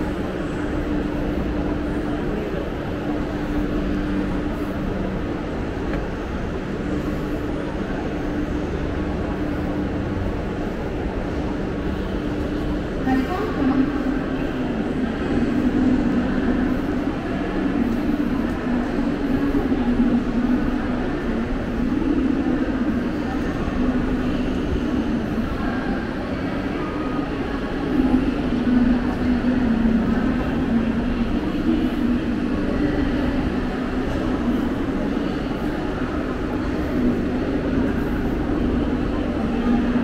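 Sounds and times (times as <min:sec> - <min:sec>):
electric train humming: 0:00.0 - 0:40.0
people's voices: 0:00.0 - 0:40.0.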